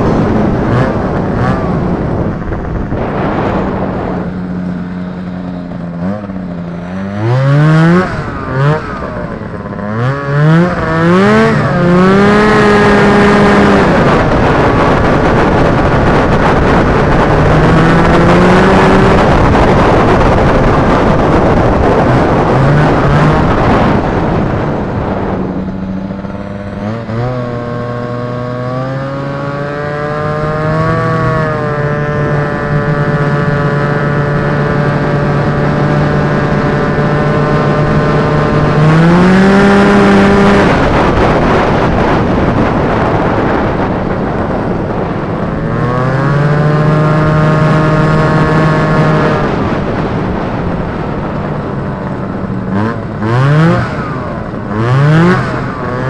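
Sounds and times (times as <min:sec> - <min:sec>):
rushing noise: 0:00.0 - 0:56.0
snowmobile engine running: 0:00.0 - 0:56.0.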